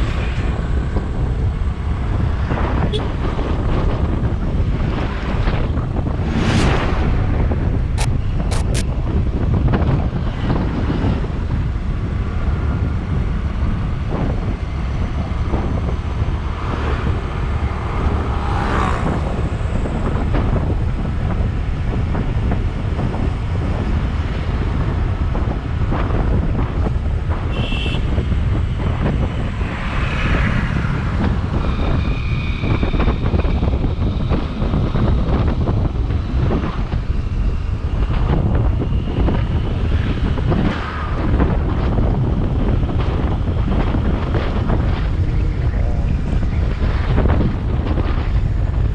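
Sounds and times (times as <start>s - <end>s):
motorcycle engine and road noise: 0.0s - 48.9s
wind rushing over microphone: 0.0s - 48.9s.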